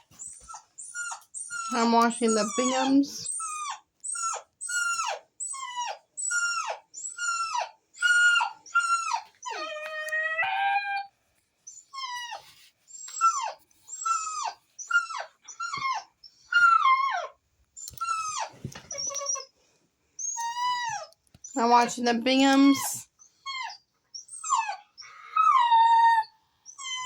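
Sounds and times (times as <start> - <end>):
puppy whining: 0.0 - 27.0.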